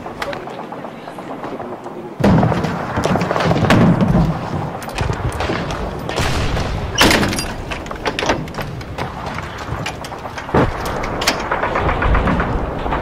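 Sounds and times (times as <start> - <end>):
outdoor noise: 0.0 - 13.0.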